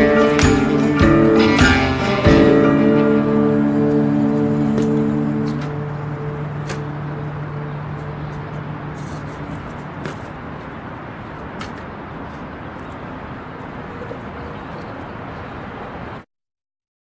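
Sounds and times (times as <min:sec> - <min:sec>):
street background noise: 0:00.0 - 0:16.3.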